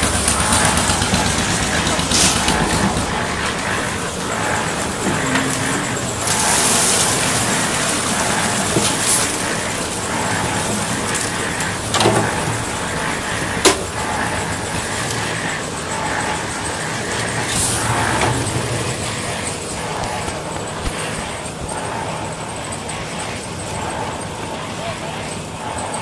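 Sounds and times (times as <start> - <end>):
concrete mixer running: 0.0 - 26.0.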